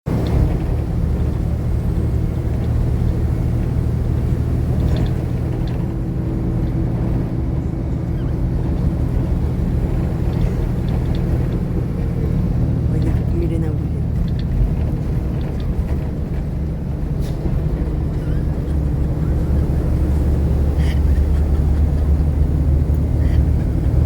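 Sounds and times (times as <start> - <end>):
bus engine rumble: 0.0 - 24.0
road noise: 0.0 - 24.0.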